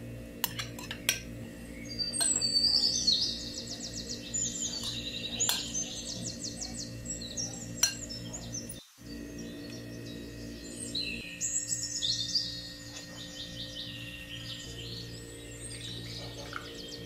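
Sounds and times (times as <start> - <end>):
soft steady background hum: 0.0 - 17.0
songbirds chirping and trilling: 0.0 - 17.0.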